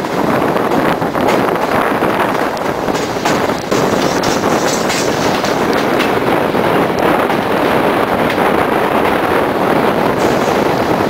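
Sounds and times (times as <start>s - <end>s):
rush of wheel and air noise: 0.0s - 11.0s
wheels clattering over rail joints: 0.1s - 11.0s.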